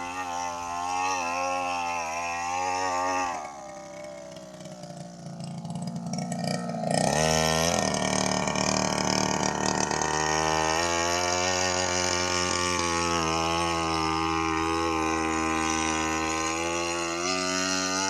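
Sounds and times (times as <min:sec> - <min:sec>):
small engine idling and revving: 0:00.0 - 0:18.0.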